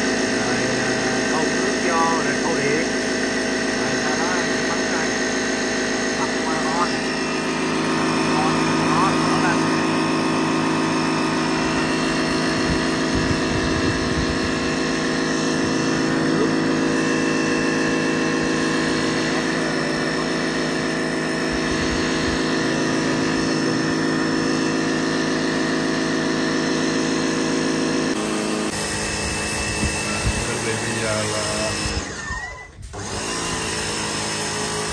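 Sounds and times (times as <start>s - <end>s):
pressure washer humming: 0.0s - 34.9s.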